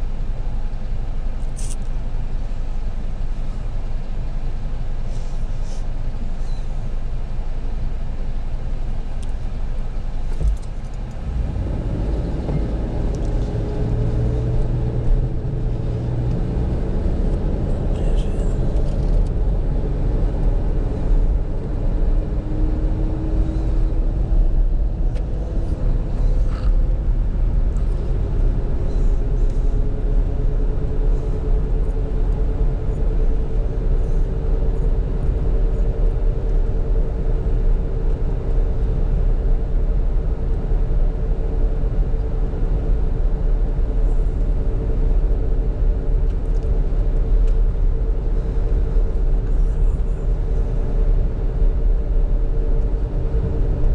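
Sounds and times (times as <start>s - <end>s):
engine and road rumble: 0.0s - 53.9s
faint hum: 0.0s - 53.9s.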